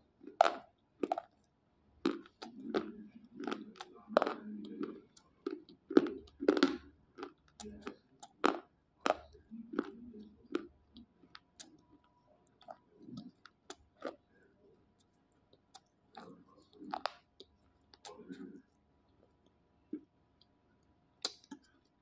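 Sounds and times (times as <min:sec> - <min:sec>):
slate pencils being chewed: 0:00.2 - 0:14.3, 0:15.0 - 0:20.5.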